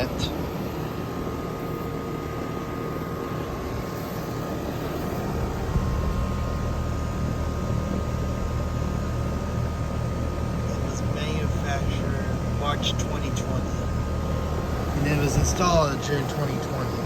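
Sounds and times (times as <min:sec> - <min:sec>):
air conditioner fan whoosh: 0:00.0 - 0:17.0
faint steady whine: 0:00.0 - 0:17.0
low compressor hum: 0:00.0 - 0:17.0.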